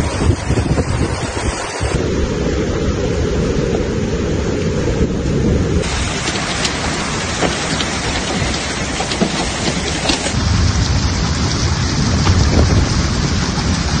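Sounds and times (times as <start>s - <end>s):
heavy rain pouring: 0.0s - 14.0s
low rumble: 0.0s - 14.0s.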